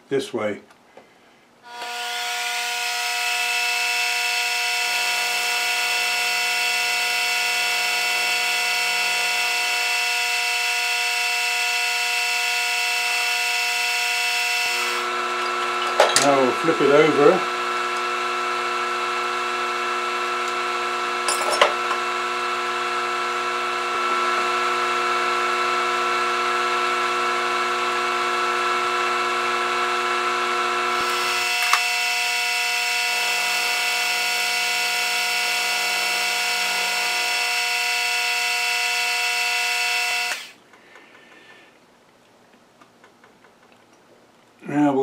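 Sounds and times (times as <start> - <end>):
milling machine whine: 1.7 - 40.6.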